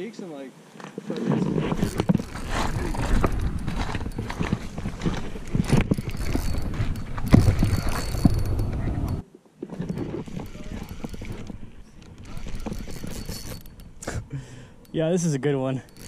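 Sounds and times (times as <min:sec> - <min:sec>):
fishing reel clicks and knocks: 0:01.8 - 0:09.2, 0:09.9 - 0:16.0.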